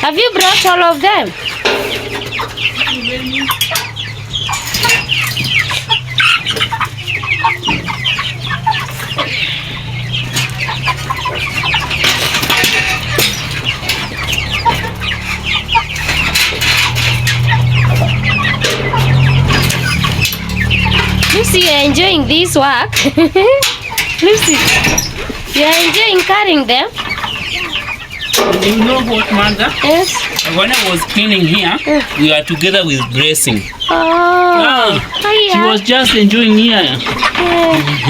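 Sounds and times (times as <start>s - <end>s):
young chickens clucking and peeping: 0.0s - 38.0s.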